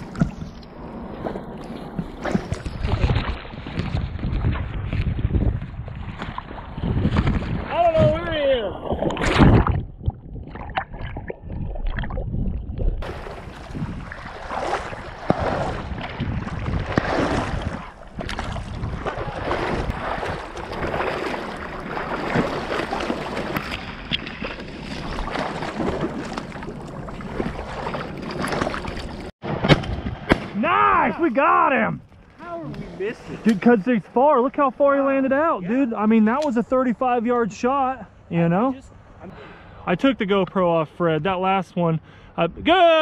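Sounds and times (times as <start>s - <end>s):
water splashing and sloshing: 0.0s - 36.4s.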